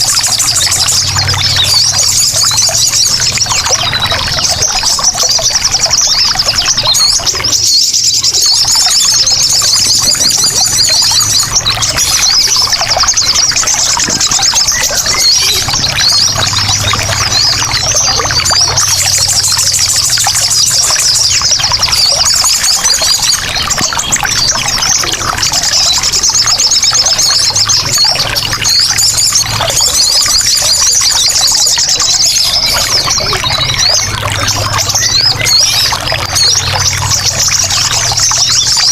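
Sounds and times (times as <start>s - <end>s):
birds chattering trills: 0.0s - 38.9s
trickling water: 0.0s - 38.9s.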